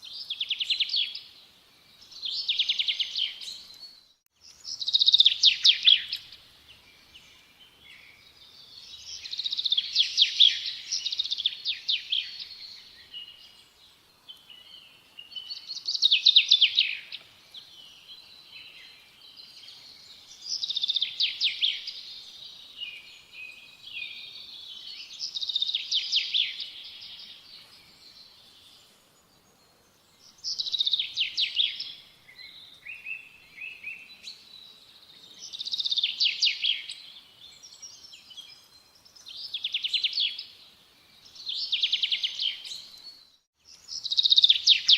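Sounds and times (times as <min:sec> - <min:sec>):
songbird singing trilled notes: 0:00.0 - 0:44.9.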